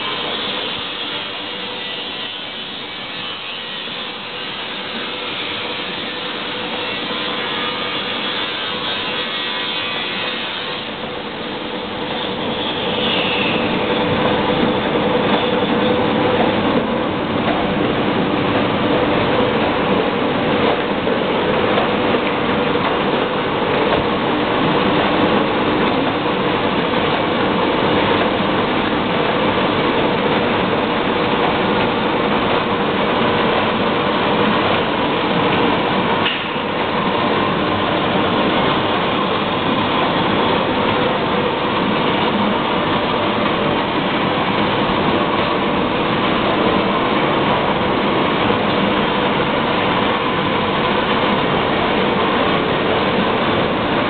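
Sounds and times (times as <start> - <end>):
printing press running: 0.0 - 54.0.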